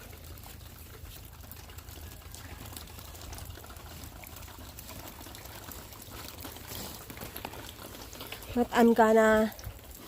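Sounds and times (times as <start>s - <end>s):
water pouring and trickling: 0.0s - 10.0s.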